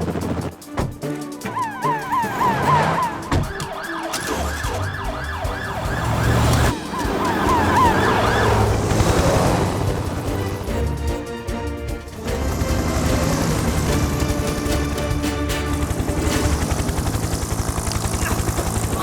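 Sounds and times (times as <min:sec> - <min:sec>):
fast yelping siren: 0:01.4 - 0:10.7, 0:12.5 - 0:19.0.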